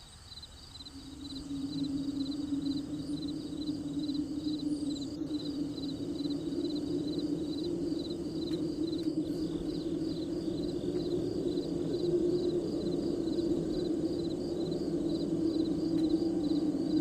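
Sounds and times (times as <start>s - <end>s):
continuous low drone: 0.0s - 17.0s
crickets chirping: 0.0s - 17.0s.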